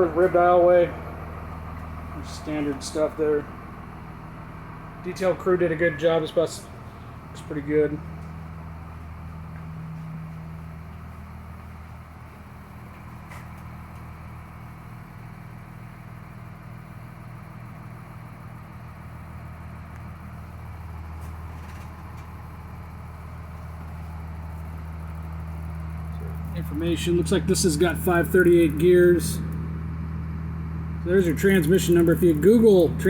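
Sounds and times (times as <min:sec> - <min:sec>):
diesel bus engine idling: 0:00.0 - 0:33.0.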